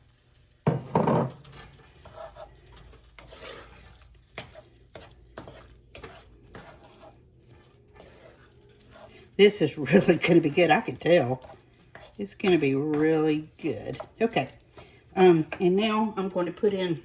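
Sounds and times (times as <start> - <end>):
utensil stirring with light clicks: 0.0 - 16.0
cream sauce simmering: 0.0 - 16.4
utensil scraping a pan: 0.6 - 16.9.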